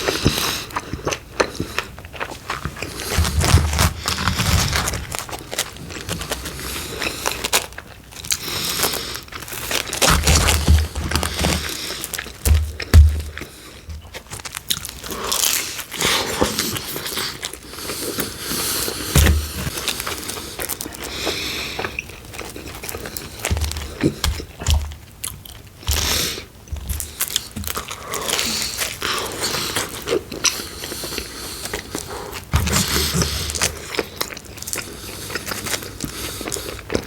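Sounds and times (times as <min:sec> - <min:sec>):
crunching pizza crust: 0:00.0 - 0:37.0
person chewing: 0:00.0 - 0:37.0.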